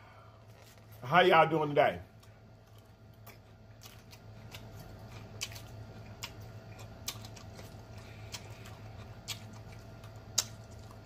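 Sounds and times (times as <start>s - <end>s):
close-miked chewing: 2.1s - 11.0s.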